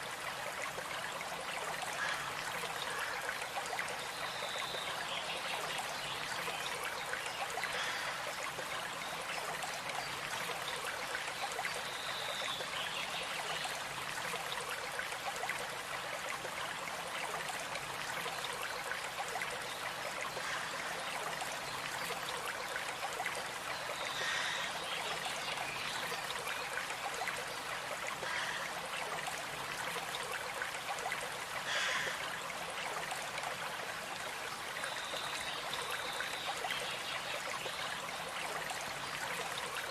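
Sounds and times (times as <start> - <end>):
small stream running: 0.0 - 39.9.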